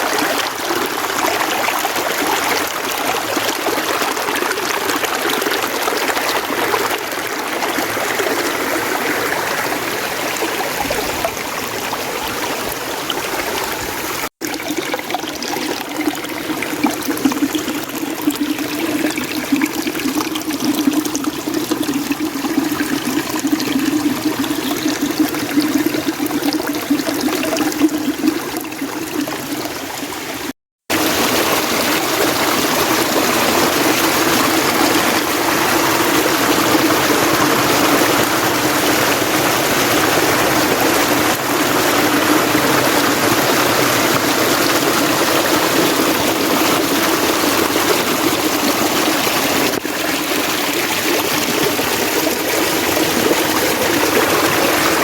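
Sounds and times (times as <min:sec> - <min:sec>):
mountain stream rushing: 0:00.0 - 0:21.9, 0:29.0 - 0:55.0.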